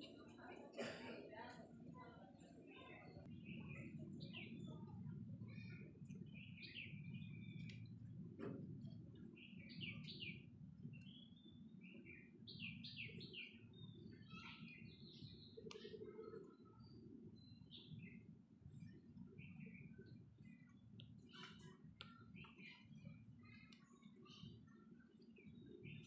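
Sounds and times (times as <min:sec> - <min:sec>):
small birds chirping: 0:01.4 - 0:26.0.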